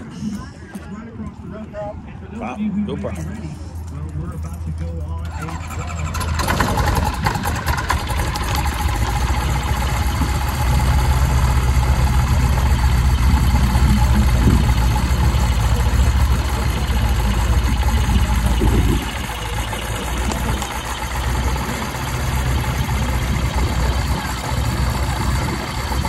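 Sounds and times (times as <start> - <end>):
aircraft engine and propeller: 3.0 - 26.0.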